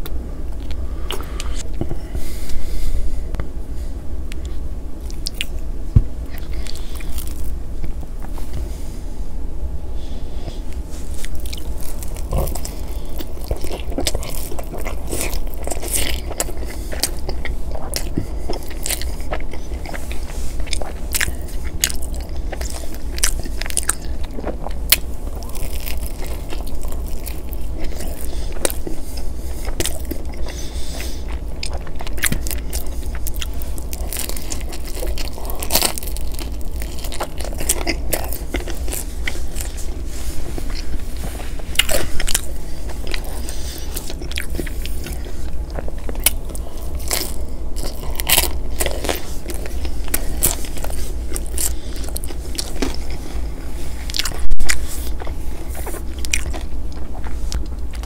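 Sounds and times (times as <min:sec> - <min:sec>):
pizza crust crunching: 0:04.3 - 0:08.8, 0:10.5 - 0:58.0.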